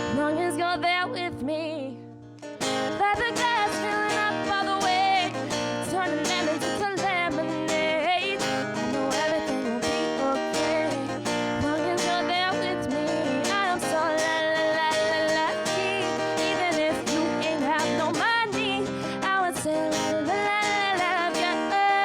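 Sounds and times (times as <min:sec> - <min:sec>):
acoustic guitar strumming: 0:00.0 - 0:22.0
woman singing: 0:00.0 - 0:22.0.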